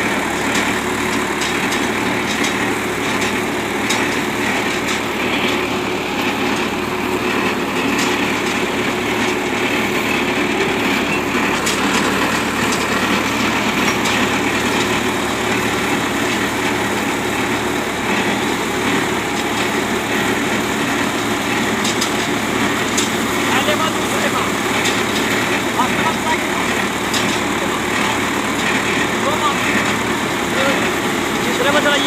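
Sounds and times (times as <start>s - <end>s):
tractor-driven baler running: 0.0s - 32.0s.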